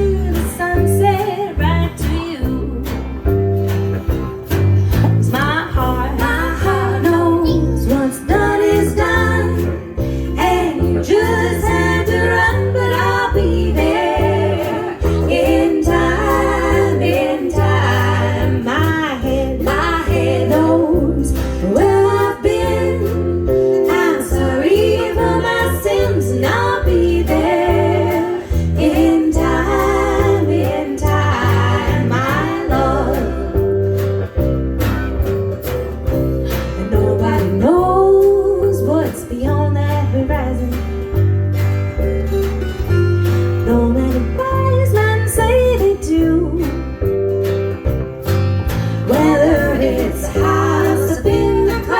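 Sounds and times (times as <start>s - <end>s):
low bass notes: 0.0s - 51.9s
strummed guitar: 0.0s - 51.9s.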